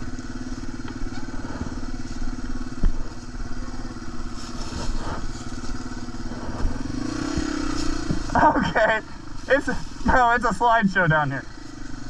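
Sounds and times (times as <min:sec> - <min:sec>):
off-road motorcycle engine running: 0:00.0 - 0:12.0.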